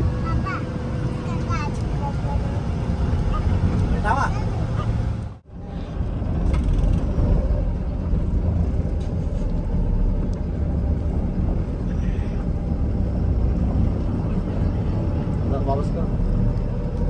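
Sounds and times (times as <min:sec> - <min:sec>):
diesel truck engine running: 0:00.0 - 0:17.0
tyre and road rumble: 0:00.0 - 0:17.0.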